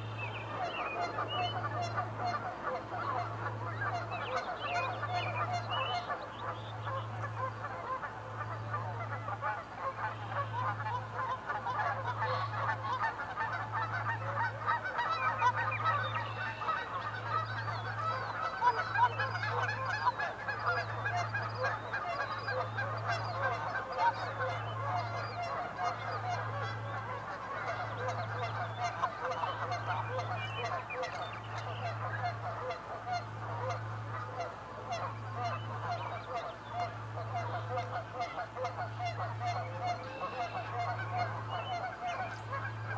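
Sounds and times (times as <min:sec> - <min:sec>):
flock of birds honking: 0:00.0 - 0:42.9
low pulsing hum: 0:01.2 - 0:42.9.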